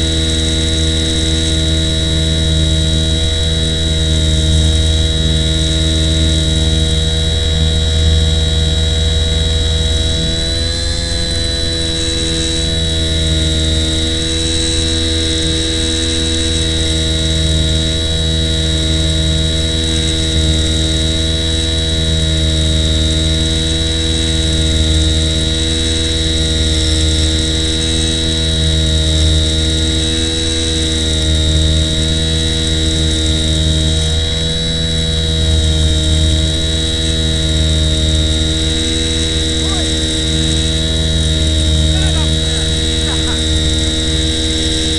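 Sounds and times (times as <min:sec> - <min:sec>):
small electric motor humming: 0:00.0 - 0:44.9.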